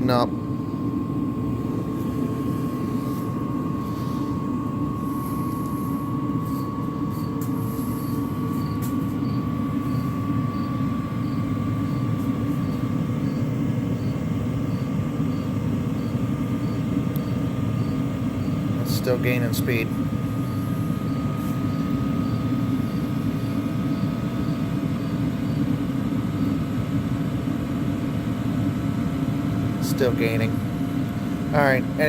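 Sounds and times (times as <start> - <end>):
air heater blower and fan whine: 0.0 - 32.0.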